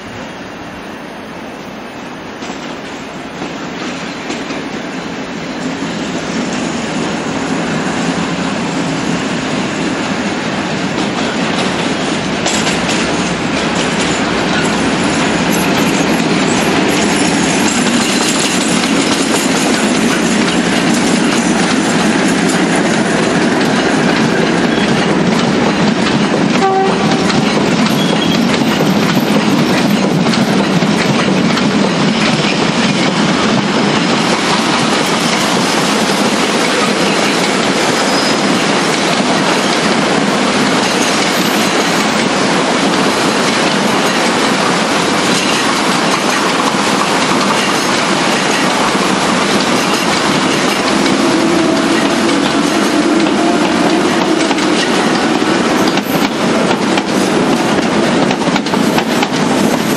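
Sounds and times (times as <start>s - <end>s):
diesel locomotive engine: 0.0s - 59.9s
wagons rumbling over rails: 0.0s - 59.9s.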